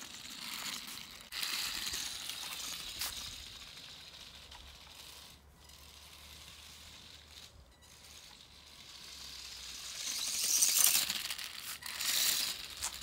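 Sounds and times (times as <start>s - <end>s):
toy car motor and wheels hissing: 0.0s - 13.0s.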